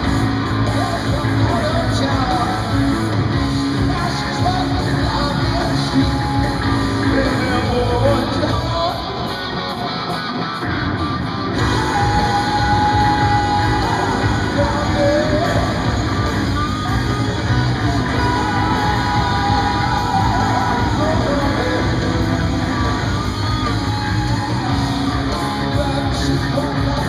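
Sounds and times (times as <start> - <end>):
bass guitar: 0.0 - 27.0
distorted electric guitar: 0.0 - 27.0
drums: 0.0 - 27.0
singer shouting vocals: 0.6 - 2.9, 3.8 - 9.4, 11.6 - 27.0.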